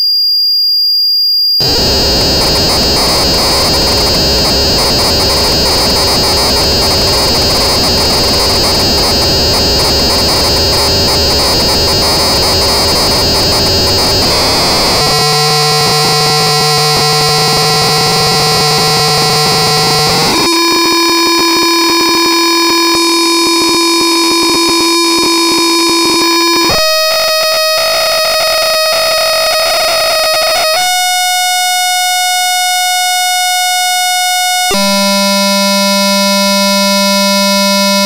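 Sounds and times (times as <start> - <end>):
harsh electronic buzz: 1.6 - 38.0.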